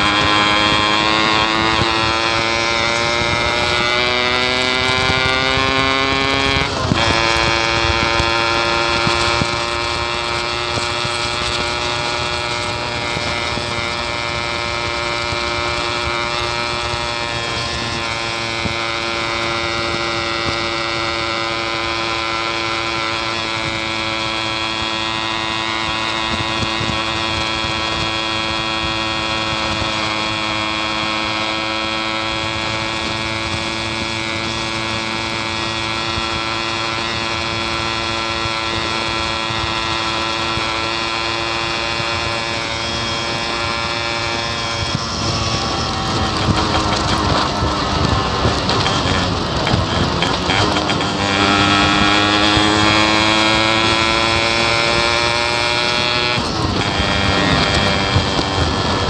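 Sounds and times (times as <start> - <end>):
two-stroke engine buzzing: 0.0 - 59.0.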